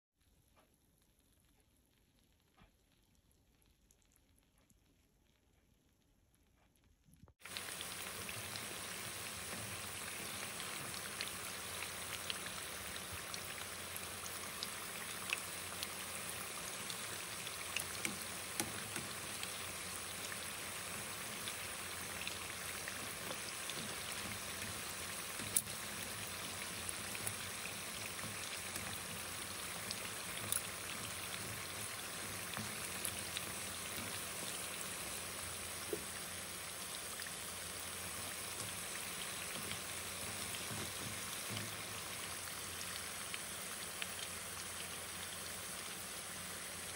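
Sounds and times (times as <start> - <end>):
crackles and pops of frying: 0.2 - 46.9
food deep frying in oil: 0.2 - 46.9.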